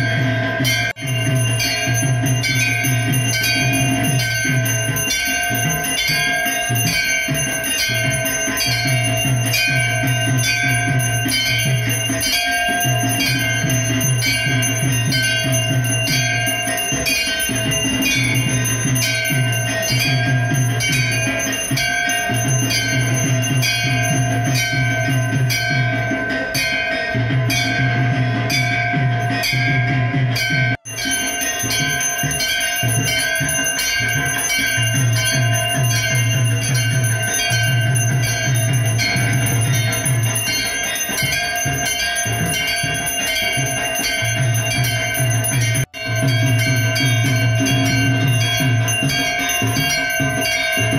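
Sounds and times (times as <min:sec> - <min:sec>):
steady drum beat: 0:00.0 - 0:50.9
temple bells ringing: 0:00.0 - 0:50.9.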